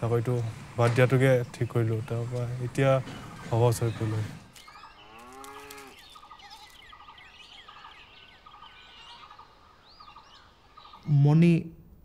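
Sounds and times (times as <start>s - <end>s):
birds calling and chirping: 0.0s - 11.6s.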